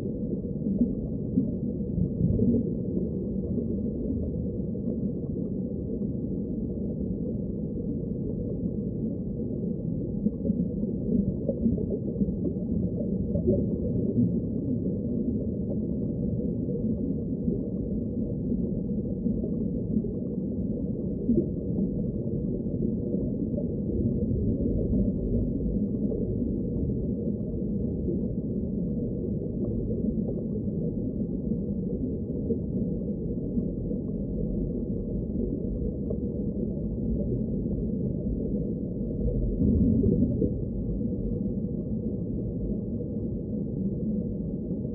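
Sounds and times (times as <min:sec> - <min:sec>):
muffled underwater water wash: 0:00.0 - 0:44.9.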